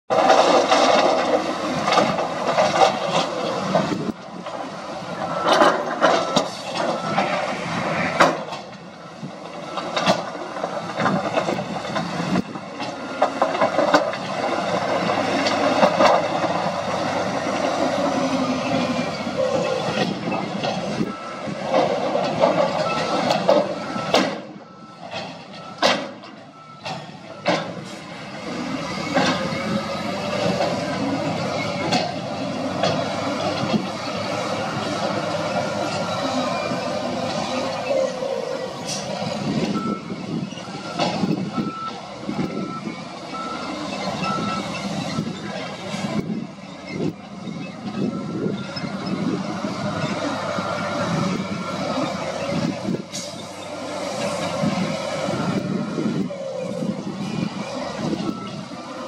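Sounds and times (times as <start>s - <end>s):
truck engine working: 0.1s - 59.0s.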